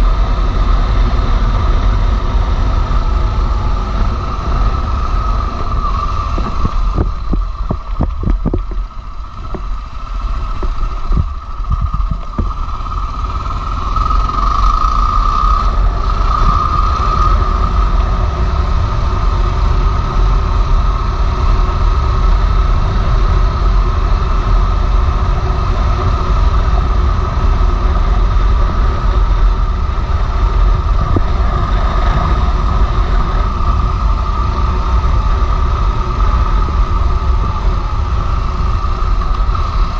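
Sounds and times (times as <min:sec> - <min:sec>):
motorcycle engine: 0:00.0 - 0:39.9
steady high whine: 0:00.0 - 0:39.9
wind rumble on microphone: 0:00.0 - 0:39.9.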